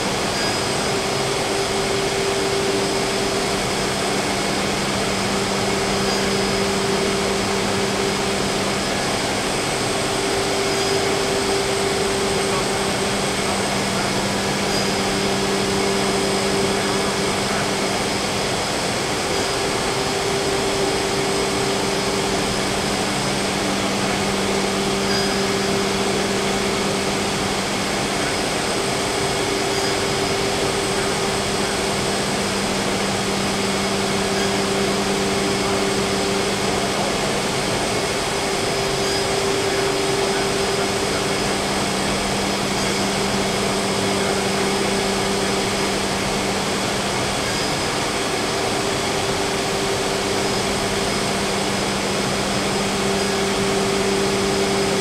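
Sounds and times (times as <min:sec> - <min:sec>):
high machine tone: 0:00.0 - 0:55.0
router spindle whir: 0:00.0 - 0:55.0.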